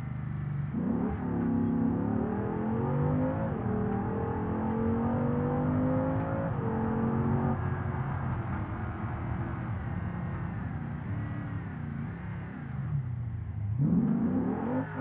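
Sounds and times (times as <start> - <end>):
car engine accelerating through gears: 0.6 - 13.0, 13.6 - 15.0.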